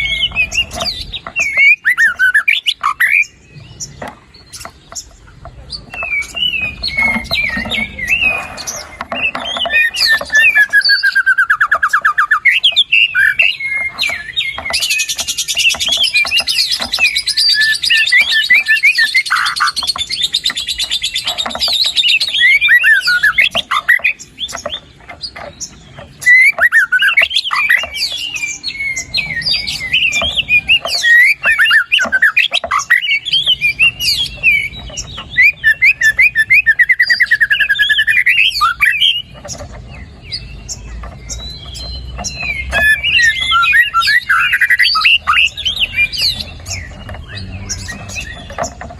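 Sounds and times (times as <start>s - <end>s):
fast rattling bird trill: 0.0s - 48.9s
songbird whistled song: 0.0s - 48.9s.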